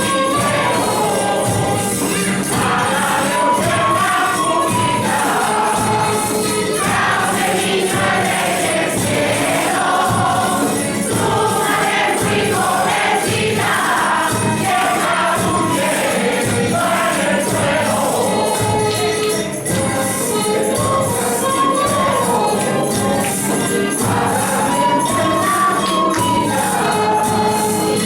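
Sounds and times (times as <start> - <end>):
group of voices singing a carol: 0.0 - 28.0
instrumental accompaniment: 0.0 - 28.0
steady percussion beat: 0.0 - 28.0.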